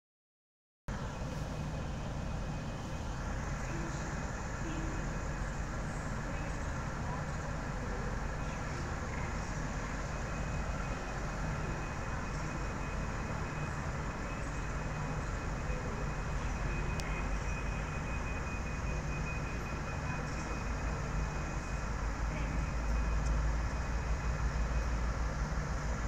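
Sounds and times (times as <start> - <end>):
diesel train engine idling: 0.9 - 26.0.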